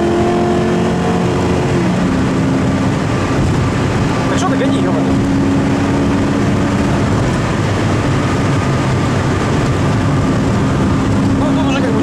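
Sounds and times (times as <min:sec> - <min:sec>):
car engine drone: 0:00.0 - 0:12.0
tyre and wind noise: 0:00.0 - 0:12.0.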